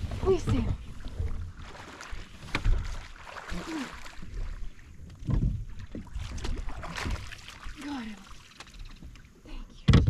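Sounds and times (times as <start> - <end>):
water splashing: 0.0 - 9.3.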